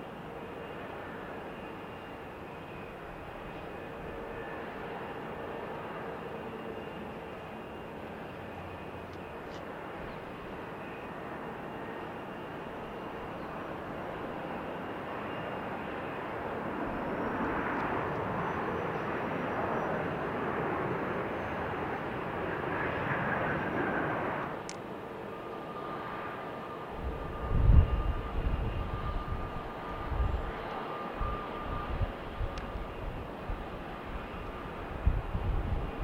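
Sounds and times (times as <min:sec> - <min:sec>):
aircraft engines roaring: 0:00.0 - 0:36.0.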